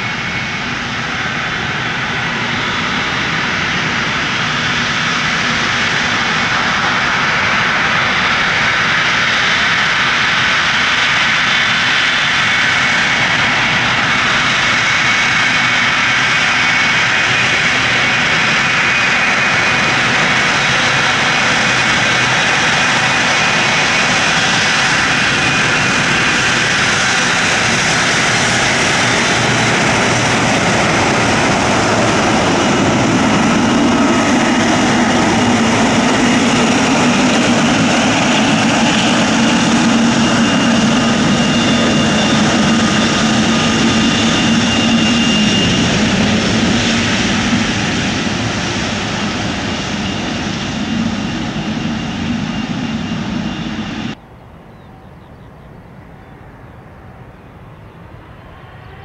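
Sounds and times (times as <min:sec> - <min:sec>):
aircraft engines running: 0:00.0 - 0:59.0.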